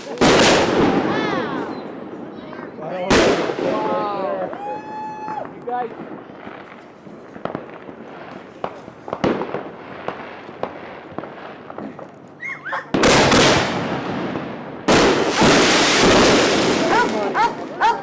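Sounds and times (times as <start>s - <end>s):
fireworks pops and crackles: 0.0s - 17.8s
dense fireworks crackling rush: 0.0s - 18.0s.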